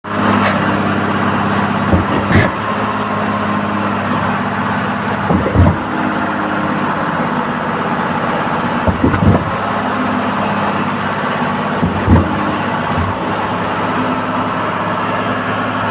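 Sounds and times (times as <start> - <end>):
diesel engine drone: 0.0 - 15.9
concrete pump knocking: 0.3 - 14.6.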